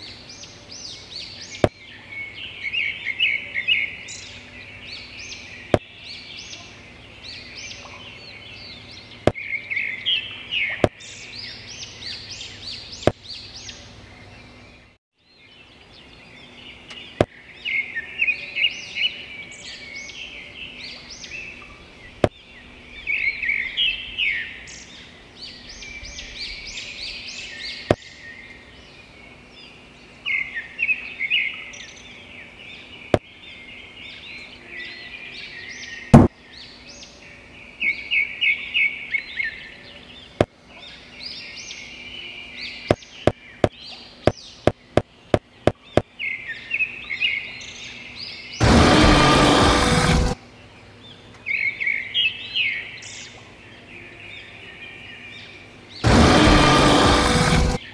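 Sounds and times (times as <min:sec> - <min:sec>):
faint steady hum: 0:00.0 - 0:57.9
small birds chirping: 0:00.0 - 0:57.9.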